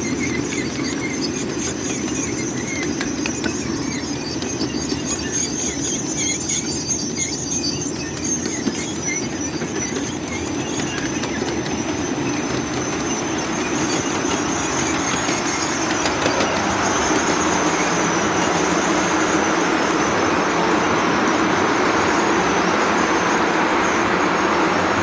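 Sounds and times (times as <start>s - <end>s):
train brakes squealing: 0.0s - 25.0s
wheels rumbling on rail: 0.0s - 25.0s.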